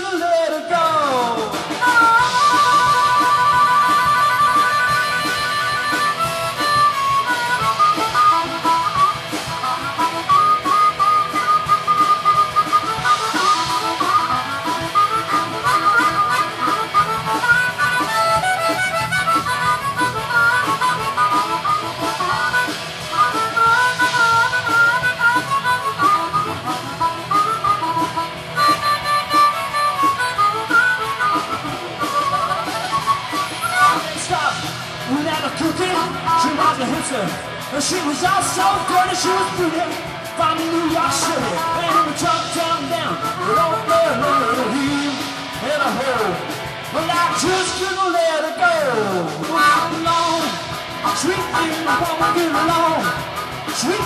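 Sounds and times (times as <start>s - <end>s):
blues harmonica solo: 0.0s - 54.0s
electric guitar: 0.0s - 54.0s
live band playing: 0.0s - 54.0s
steady drum beat: 0.0s - 54.0s.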